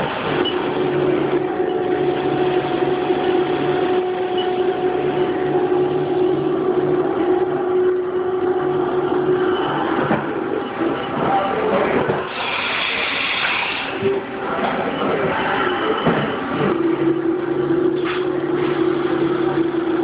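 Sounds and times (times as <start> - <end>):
low machine hum: 0.0 - 12.9, 13.8 - 20.0
mill high whine: 0.0 - 20.0.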